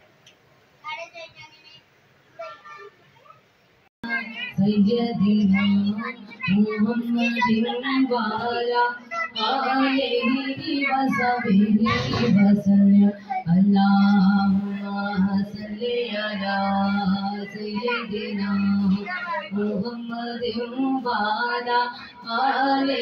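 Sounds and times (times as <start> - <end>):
person singing: 4.0 - 23.0.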